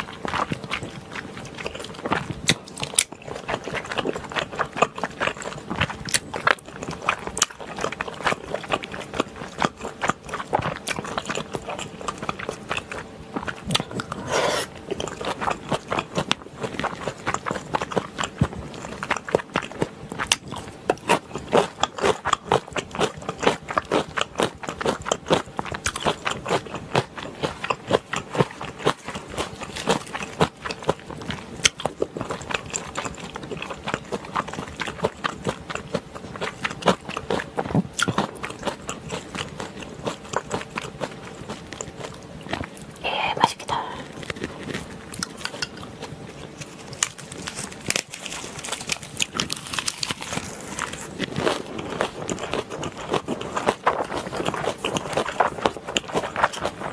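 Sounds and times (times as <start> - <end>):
wet chewing and mouth smacking: 0.0 - 56.9.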